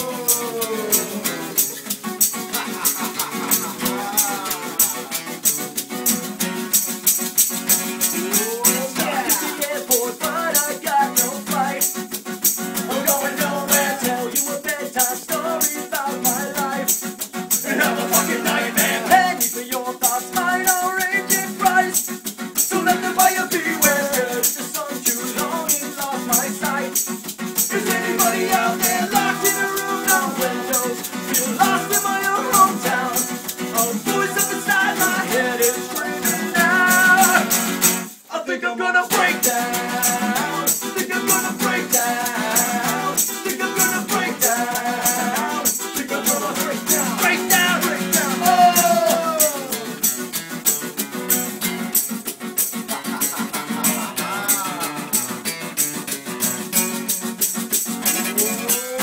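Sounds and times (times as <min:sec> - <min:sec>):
shaker rhythm: 0:00.0 - 0:38.3, 0:39.1 - 0:59.0
strummed acoustic guitar: 0:00.0 - 0:59.0.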